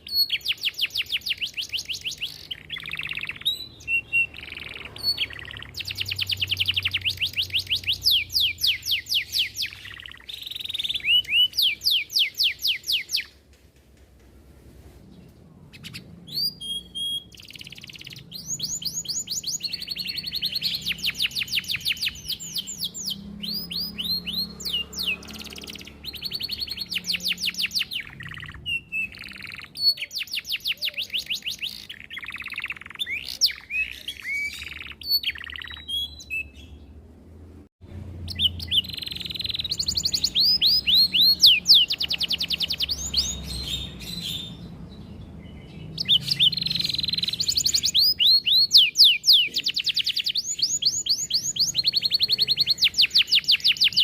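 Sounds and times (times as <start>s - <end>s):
canary singing trills: 0.0s - 13.4s, 15.6s - 37.0s, 38.0s - 54.0s.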